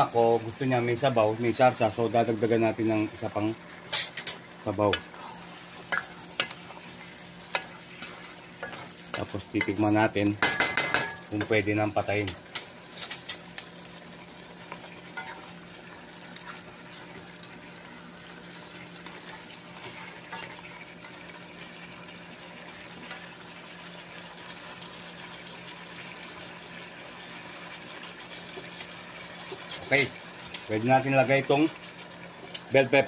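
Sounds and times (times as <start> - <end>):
stew bubbling and sizzling: 0.0 - 33.0.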